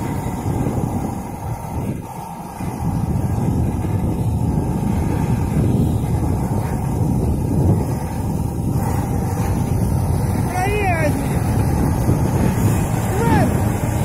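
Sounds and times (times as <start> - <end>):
truck diesel engine under load: 0.0 - 14.0.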